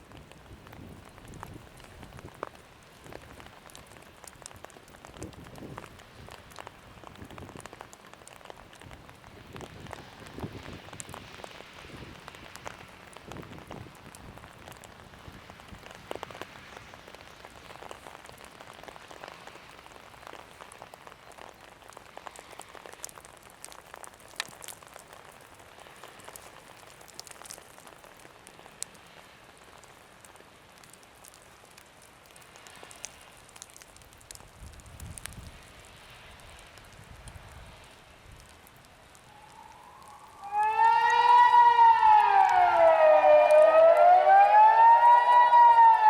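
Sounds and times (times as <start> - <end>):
light rain pattering: 0.0 - 46.0.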